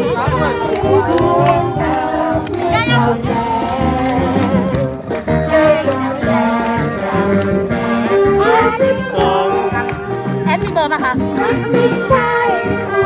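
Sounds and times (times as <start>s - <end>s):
live band over loudspeaker: 0.0s - 13.0s.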